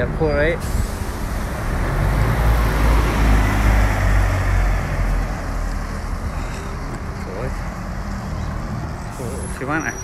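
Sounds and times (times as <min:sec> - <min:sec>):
car passing: 0:00.9 - 0:10.0.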